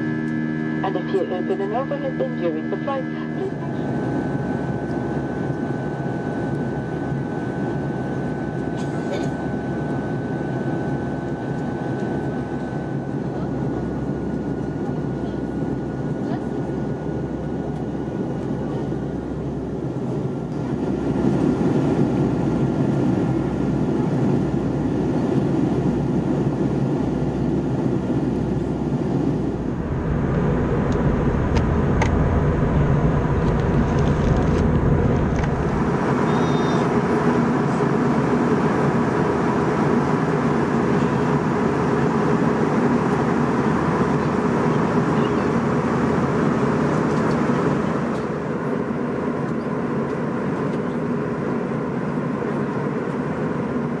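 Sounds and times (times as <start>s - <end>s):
jet engine and airflow roar: 0.0s - 54.0s.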